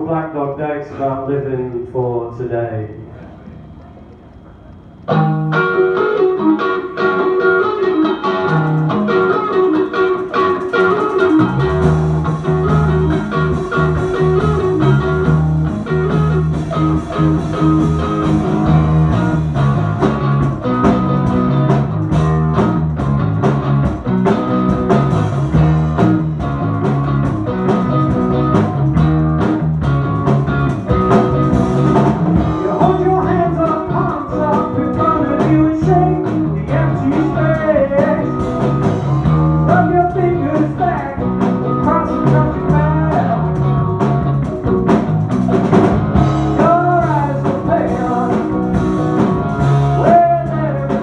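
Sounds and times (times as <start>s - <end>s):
bass guitar: 0.0s - 51.0s
drums: 0.0s - 51.0s
electric guitar riff: 2.9s - 51.0s.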